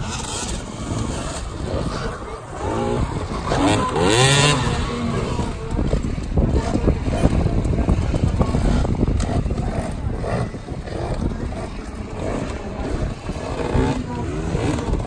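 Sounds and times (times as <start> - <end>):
background voices: 0.0 - 15.0
dirt bike engine running: 0.0 - 15.0.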